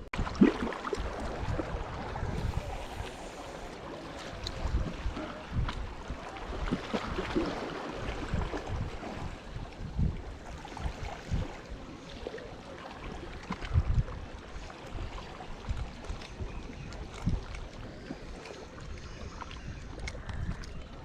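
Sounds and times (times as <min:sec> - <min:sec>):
water lapping: 0:00.0 - 0:21.0
wind buffeting microphone: 0:00.0 - 0:21.0.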